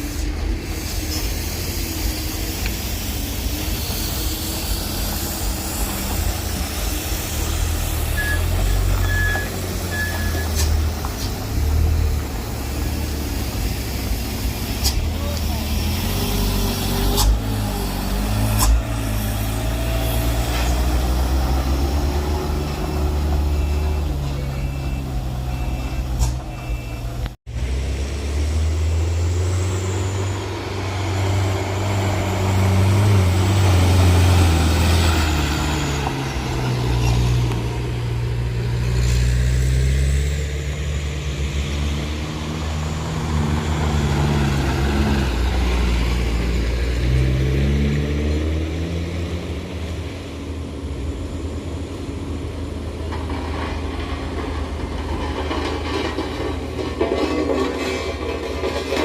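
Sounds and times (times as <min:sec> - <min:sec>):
truck diesel engine labouring: 0:00.0 - 0:59.0.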